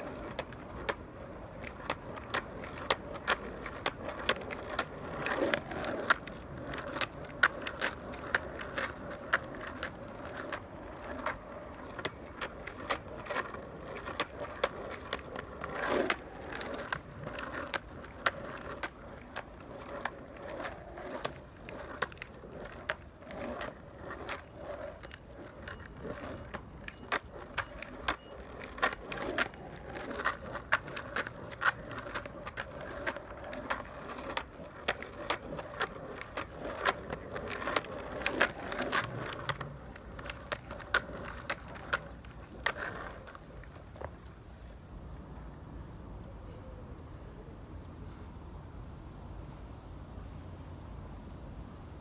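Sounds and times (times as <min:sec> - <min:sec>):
skateboard clicks and knocks: 0:00.0 - 0:51.2
skateboard wheels rumbling: 0:00.0 - 0:52.0.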